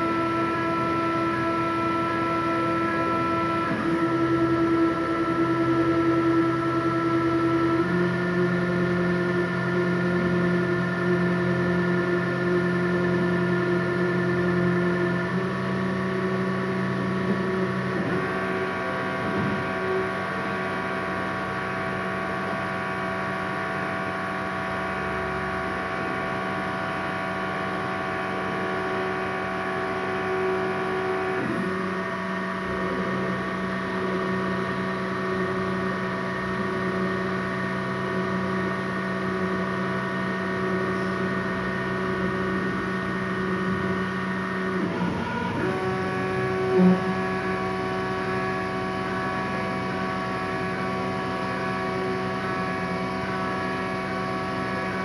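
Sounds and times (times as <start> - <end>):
machine motors humming and whining: 0.0 - 55.0.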